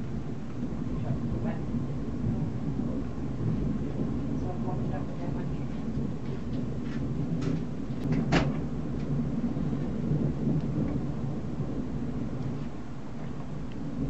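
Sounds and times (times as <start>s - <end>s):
low rumble of thunder: 0.0s - 14.0s
rain: 0.0s - 14.0s.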